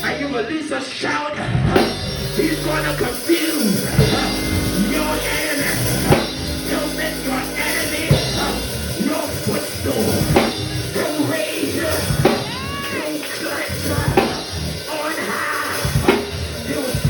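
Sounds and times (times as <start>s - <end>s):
drum kit with bass drum: 0.0s - 0.5s, 1.7s - 17.0s
voices: 0.0s - 17.0s
live band music: 1.8s - 17.0s.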